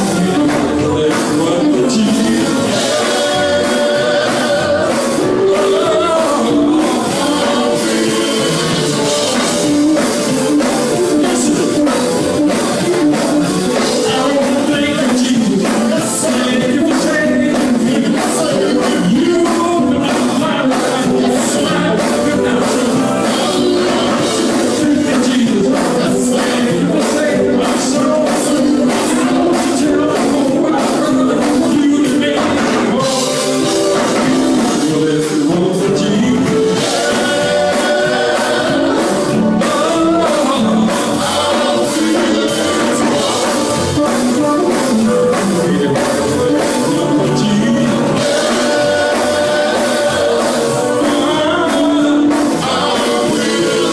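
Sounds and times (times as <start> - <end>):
gospel band with singing: 0.0 - 53.9.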